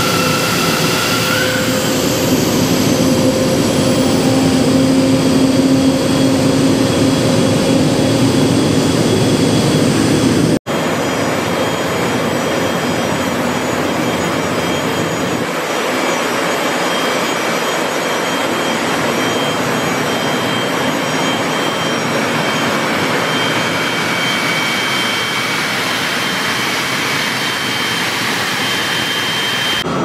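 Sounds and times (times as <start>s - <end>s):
high turbine whine: 0.0s - 30.0s
lower turbine whine: 0.0s - 30.0s.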